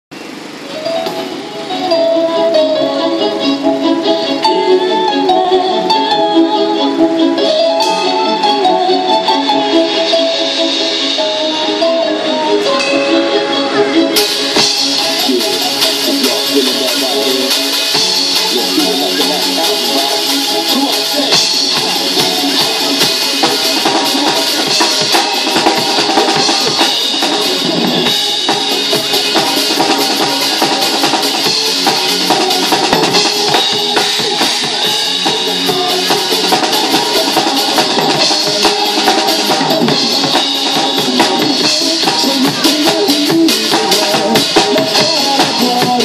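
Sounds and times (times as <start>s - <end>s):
drum kit playing: 0.4s - 46.0s
recorded backing song: 0.7s - 46.0s.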